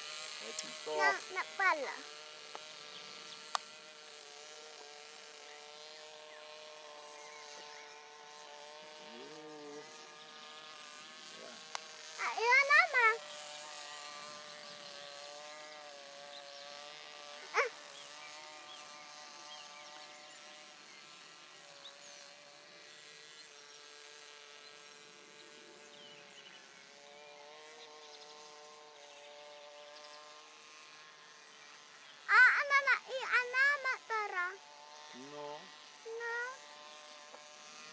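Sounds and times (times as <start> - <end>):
model plane engine buzzing: 0.0 - 37.9.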